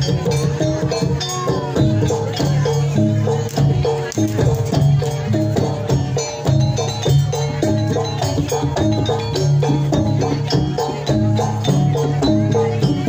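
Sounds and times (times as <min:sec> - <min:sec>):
jingling percussion: 0:00.0 - 0:13.0.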